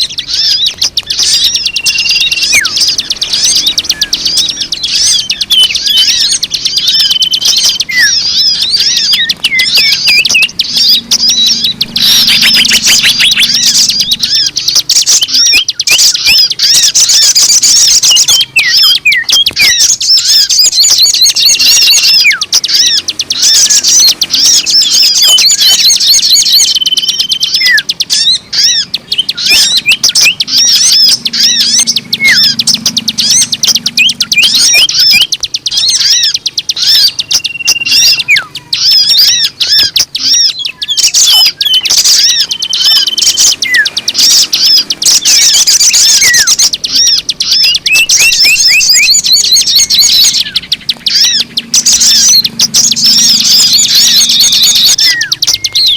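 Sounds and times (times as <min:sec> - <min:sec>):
clear bird whistles: 0:00.0 - 0:55.9
small birds chirping: 0:00.0 - 0:55.9.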